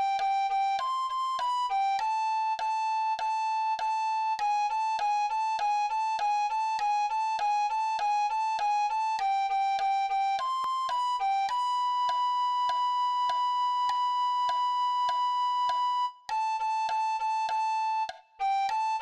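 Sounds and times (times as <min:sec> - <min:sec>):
soprano recorder melody: 0:00.0 - 0:19.0.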